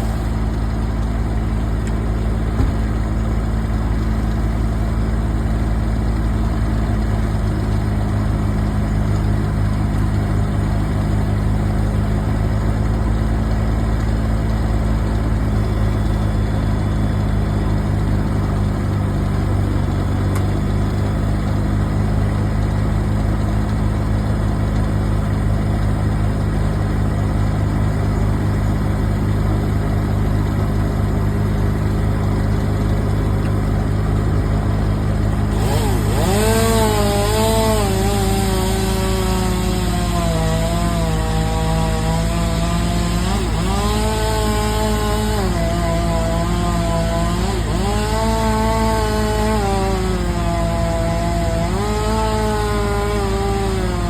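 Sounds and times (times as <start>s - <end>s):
large engine idling: 0.0s - 54.0s.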